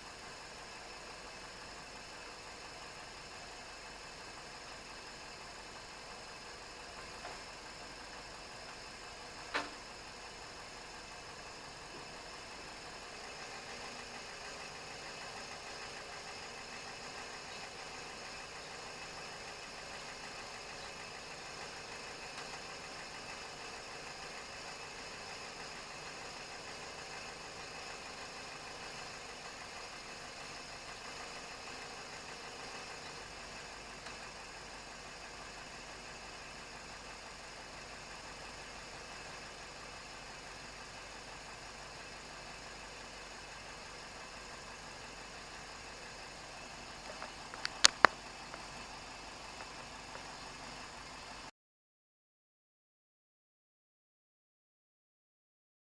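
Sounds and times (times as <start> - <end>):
car engine idling: 0.0 - 51.5.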